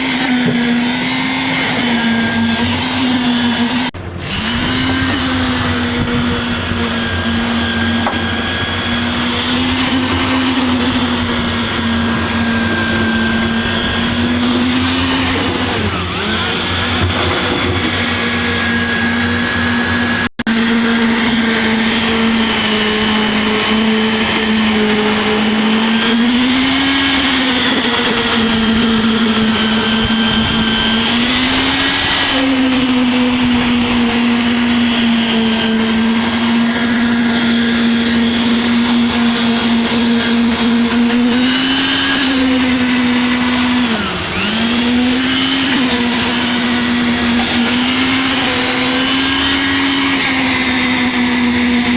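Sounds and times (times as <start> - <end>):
power tool motor running: 0.0 - 51.9.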